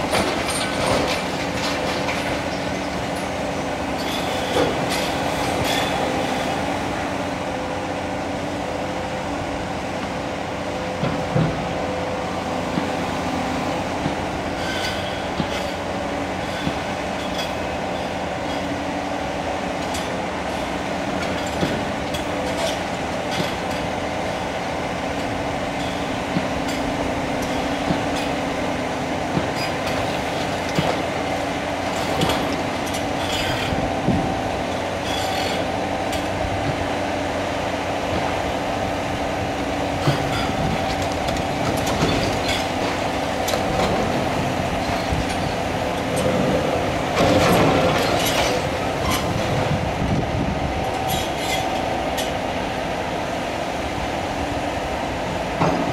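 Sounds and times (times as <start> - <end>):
excavator engine hum: 0.0 - 55.9.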